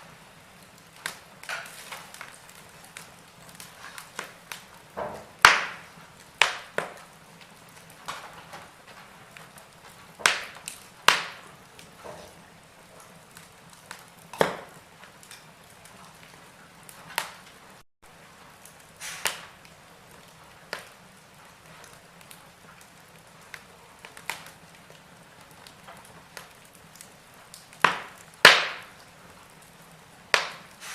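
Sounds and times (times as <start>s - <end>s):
soft steady hiss: 0.0s - 30.9s
wood fire crackling: 0.0s - 30.9s.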